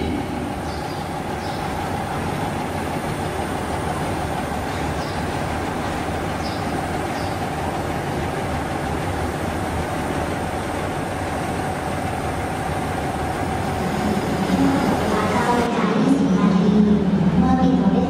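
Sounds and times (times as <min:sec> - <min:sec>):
diesel train idling: 0:00.0 - 0:18.0.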